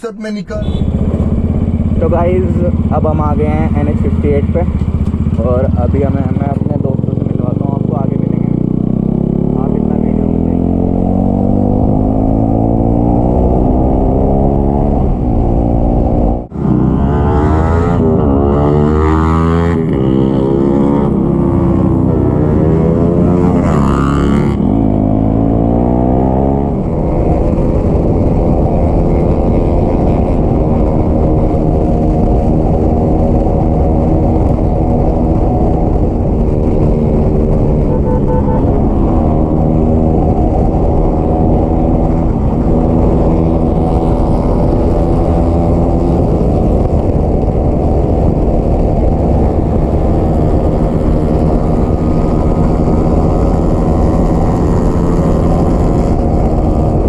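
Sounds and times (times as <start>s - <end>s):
motorcycle engine running: 0.6s - 19.1s, 19.7s - 57.0s.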